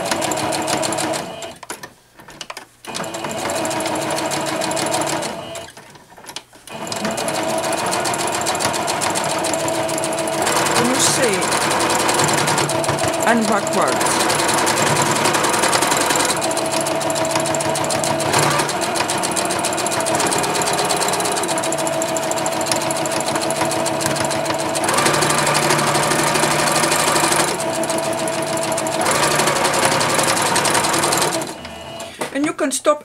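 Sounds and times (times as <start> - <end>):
sewing machine running: 0.0 - 1.6, 2.9 - 5.8, 6.7 - 32.3.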